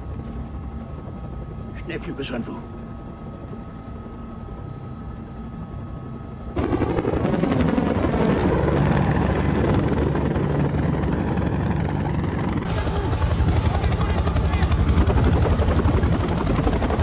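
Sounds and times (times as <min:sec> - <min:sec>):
helicopter cabin hum and whine: 0:00.0 - 0:17.0
helicopter rotor and engine noise: 0:00.0 - 0:17.0.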